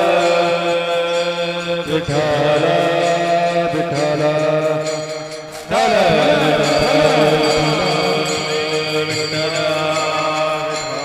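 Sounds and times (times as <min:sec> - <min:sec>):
devotional singing: 0:00.0 - 0:11.0
steady held drone: 0:00.0 - 0:11.0.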